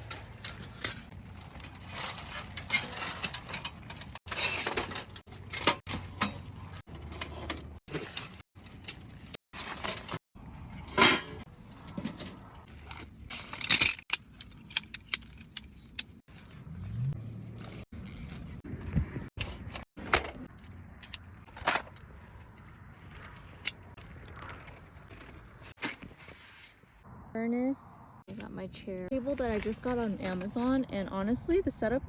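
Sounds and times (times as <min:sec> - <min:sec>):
camping gear clinking and rattling: 0:00.0 - 0:27.0.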